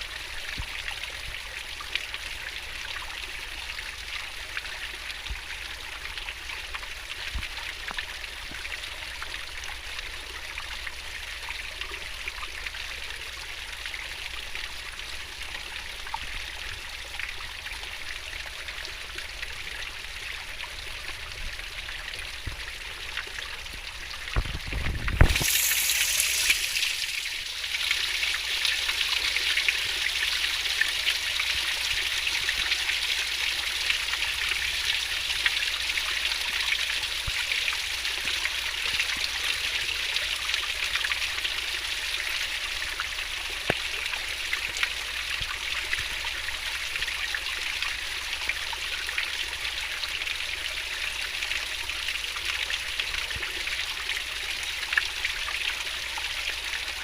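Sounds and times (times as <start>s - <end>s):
stream babbling and rushing: 0.0s - 57.0s.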